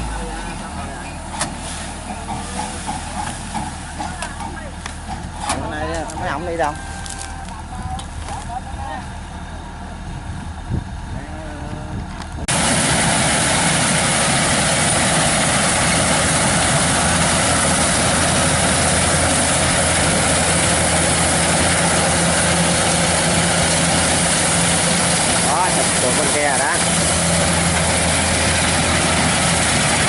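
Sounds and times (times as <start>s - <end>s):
combine harvester running: 0.0s - 30.0s.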